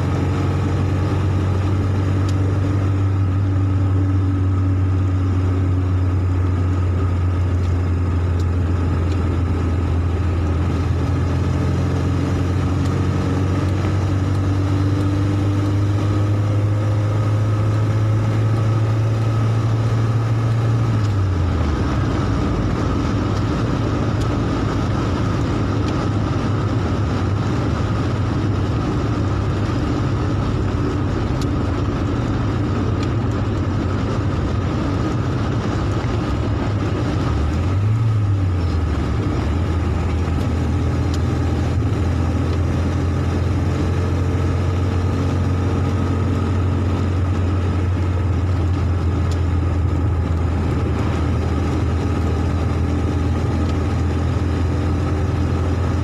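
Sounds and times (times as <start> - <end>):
car engine drone: 0.0 - 56.0
tyre noise on wet road: 0.0 - 56.0.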